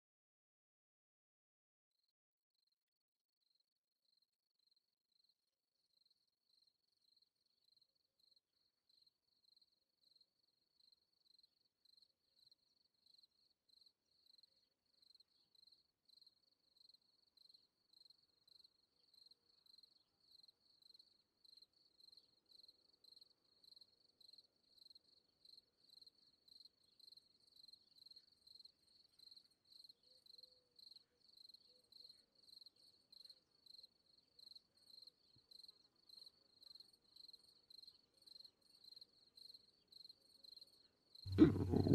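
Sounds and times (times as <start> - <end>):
faint cricket chirping: 3.4 - 41.9.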